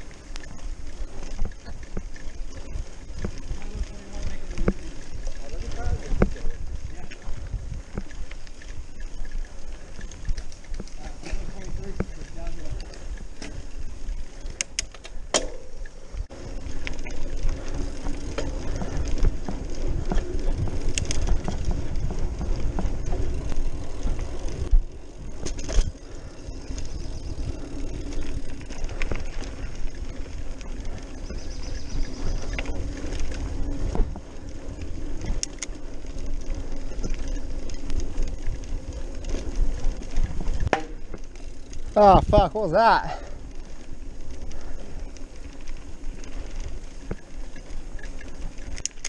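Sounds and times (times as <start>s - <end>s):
bike rattling over bumps: 0.0s - 49.0s
wind and tyre rumble: 0.0s - 49.0s.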